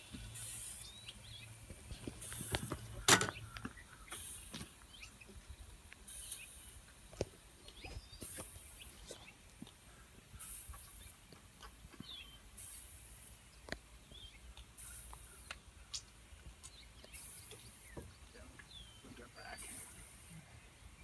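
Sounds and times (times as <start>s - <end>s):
soft hiss: 0.0s - 21.0s.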